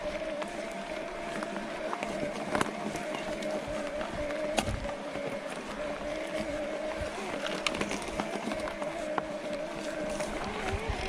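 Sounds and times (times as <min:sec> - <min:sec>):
bike clicks and rattles: 0:00.0 - 0:11.0
electric bike motor whining: 0:00.0 - 0:11.0
tyre and wind noise: 0:00.0 - 0:11.0.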